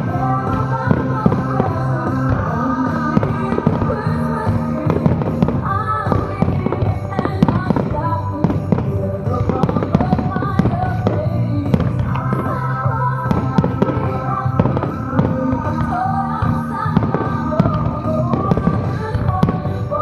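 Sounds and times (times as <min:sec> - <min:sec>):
fireworks bursting and crackling: 0:00.0 - 0:20.0
music with steady chords: 0:00.0 - 0:20.0.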